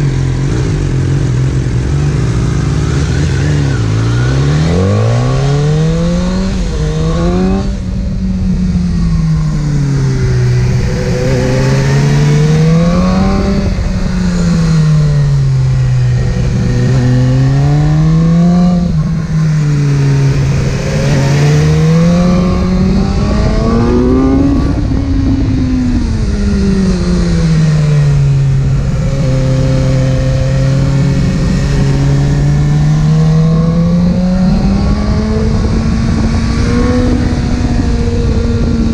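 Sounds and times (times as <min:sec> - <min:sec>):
motorcycle engine revving: 0:00.0 - 0:38.9
road noise rumble: 0:00.0 - 0:38.9.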